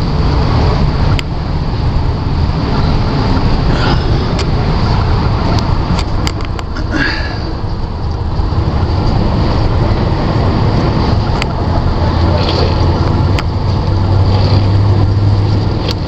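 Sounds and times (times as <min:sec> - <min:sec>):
vehicle drivetrain droning: 0:00.0 - 0:16.0.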